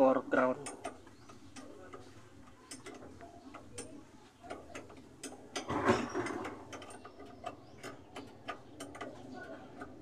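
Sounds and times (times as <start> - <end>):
wrench clicking on metal: 0.6 - 5.7, 6.3 - 10.0.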